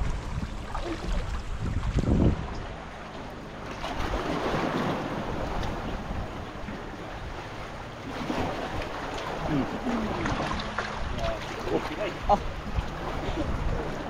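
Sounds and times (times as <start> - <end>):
sea waves washing: 0.0 - 14.0
wind rumbling on microphone: 0.0 - 14.0.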